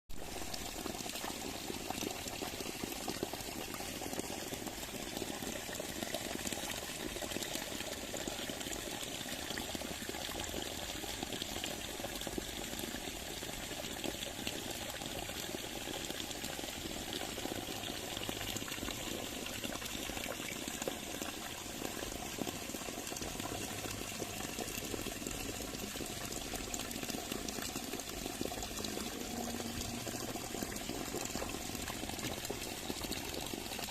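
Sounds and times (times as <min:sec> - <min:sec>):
flowing water: 0:00.1 - 0:33.9.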